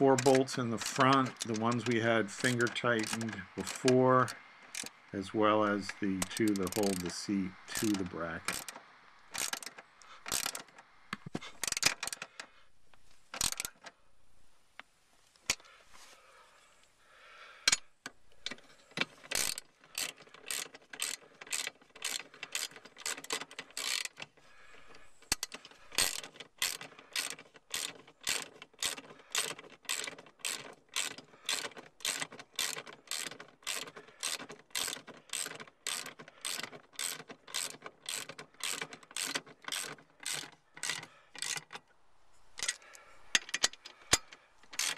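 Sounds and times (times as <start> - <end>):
ratchet wrench clicking: 0.0 - 5.0, 5.8 - 10.8, 11.6 - 12.5, 13.3 - 13.9, 17.6 - 41.8, 42.6 - 44.9.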